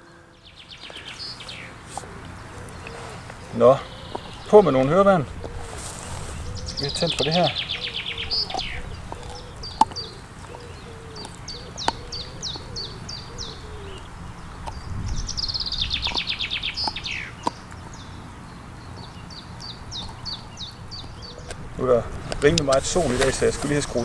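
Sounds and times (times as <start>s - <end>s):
bird trill: 0.0s - 21.6s
songbirds singing: 0.0s - 24.0s.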